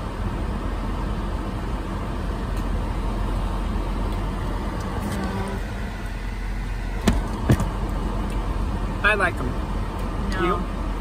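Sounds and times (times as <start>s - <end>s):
car cabin hum and hiss: 0.0s - 11.0s.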